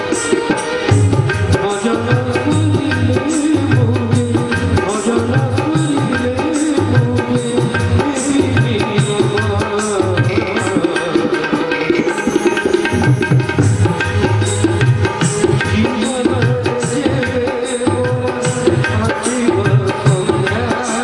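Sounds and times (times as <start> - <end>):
hand drum beating: 0.0 - 21.0
harmonium and keyboard playing: 0.0 - 21.0.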